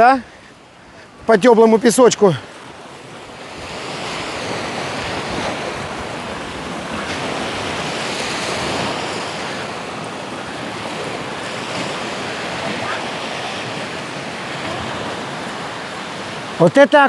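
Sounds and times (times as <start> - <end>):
sea surf washing onto beach: 0.0 - 17.0
wind on microphone: 2.6 - 16.6.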